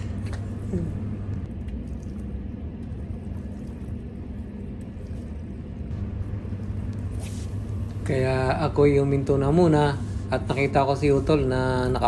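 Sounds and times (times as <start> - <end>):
distant machinery rumble and hum: 0.0 - 12.0.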